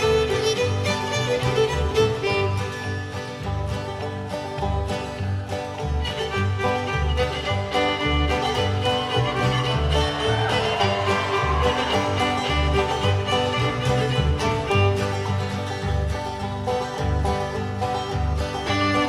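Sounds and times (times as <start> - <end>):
banjo: 0.0 - 19.0
bass beat: 0.0 - 19.0
fiddle: 0.0 - 19.0
guitar: 0.0 - 19.0.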